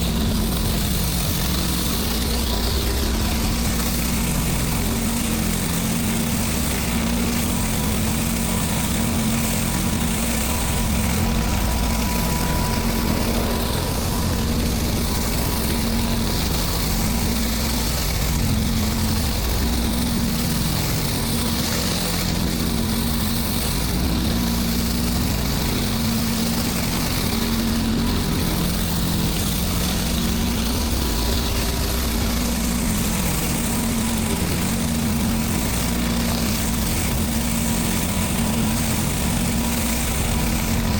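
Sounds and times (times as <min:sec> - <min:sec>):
pressure washer engine running: 0:00.0 - 0:40.9
water spray hissing: 0:00.0 - 0:40.9.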